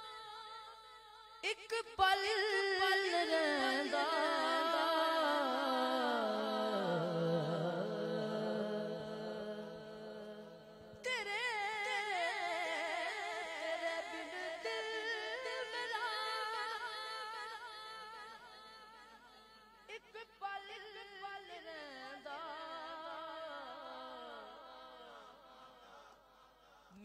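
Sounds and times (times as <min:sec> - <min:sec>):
man singing unaccompanied: 0:01.4 - 0:19.0, 0:19.9 - 0:24.6.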